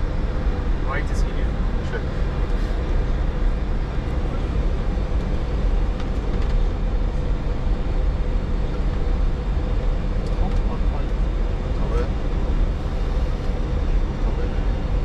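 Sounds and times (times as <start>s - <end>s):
aircraft cockpit engine rumble: 0.0s - 15.0s.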